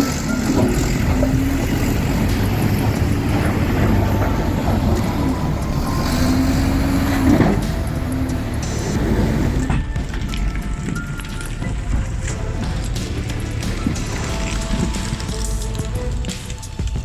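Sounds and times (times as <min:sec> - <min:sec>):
heavy diesel machinery running: 0:00.0 - 0:16.6.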